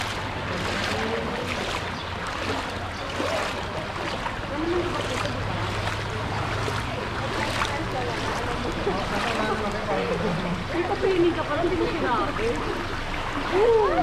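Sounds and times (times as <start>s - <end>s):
feet wading through water: 0.0s - 14.0s.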